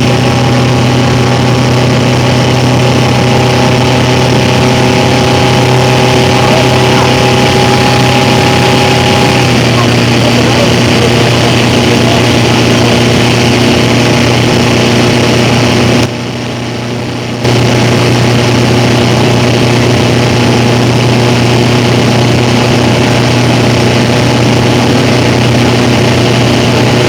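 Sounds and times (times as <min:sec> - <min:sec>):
jet ski engine running: 0:00.0 - 0:27.0.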